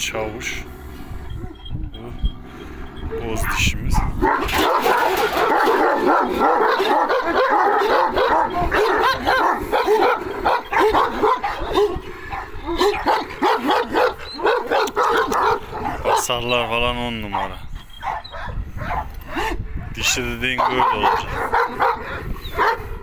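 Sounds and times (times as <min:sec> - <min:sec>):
dogs whining and yipping: 0:01.0 - 0:19.9, 0:20.6 - 0:23.0.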